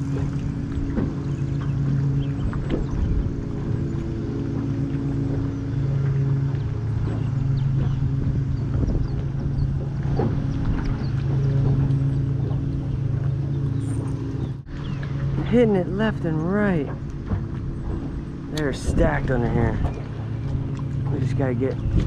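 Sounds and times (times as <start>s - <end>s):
small boat motor running: 0.0s - 22.0s.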